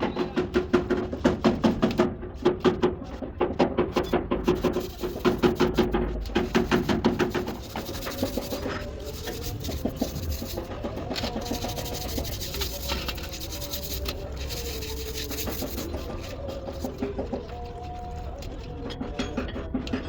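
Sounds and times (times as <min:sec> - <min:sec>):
scraping and rubbing: 0:00.0 - 0:20.0.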